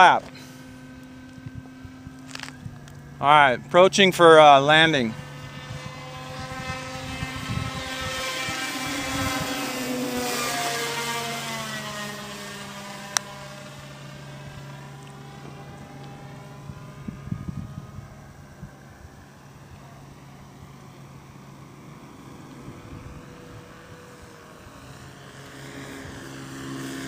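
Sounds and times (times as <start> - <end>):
model airplane motor and propeller: 0.0 - 27.0.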